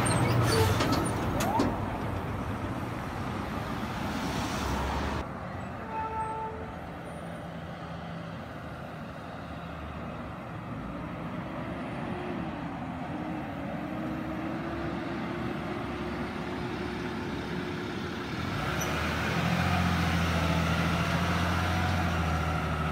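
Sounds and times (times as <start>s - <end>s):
vehicles passing: 0.0s - 22.9s.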